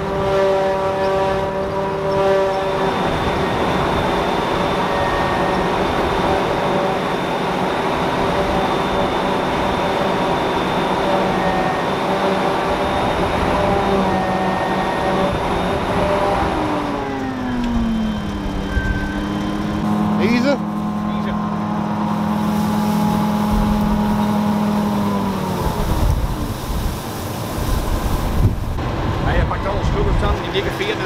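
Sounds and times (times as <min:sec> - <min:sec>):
forage harvester machine drone: 0:00.0 - 0:31.0.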